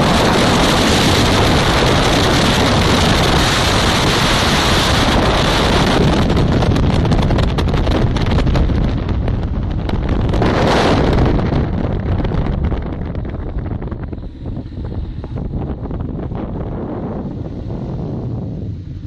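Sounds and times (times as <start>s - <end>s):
loud wind over microphone: 0.0s - 19.0s.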